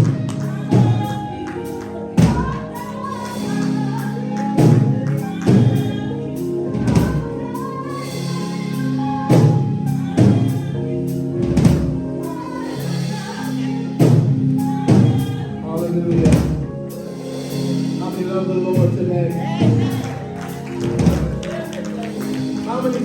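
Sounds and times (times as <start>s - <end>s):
held instrumental chords: 0.0s - 23.0s
voices singing gospel: 0.0s - 23.0s.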